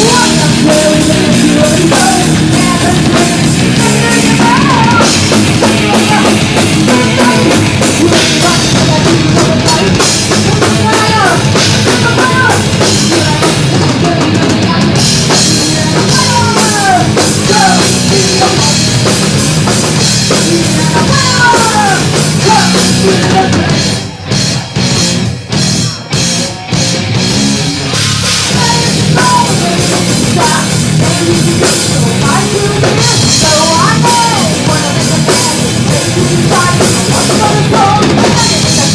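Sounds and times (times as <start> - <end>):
bass guitar: 0.0 - 38.9
distorted electric guitars: 0.0 - 38.9
drum kit: 0.0 - 38.9.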